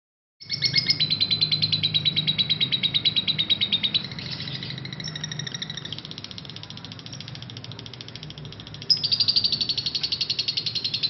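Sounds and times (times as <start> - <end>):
lovebird high chattering: 0.4 - 11.0.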